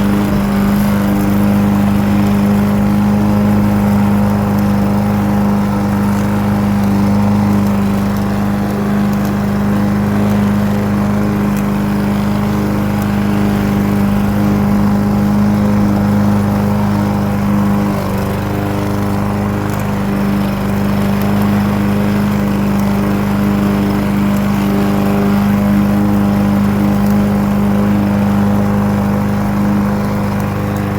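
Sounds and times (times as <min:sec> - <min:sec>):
lawnmower engine running: 0:00.0 - 0:30.9.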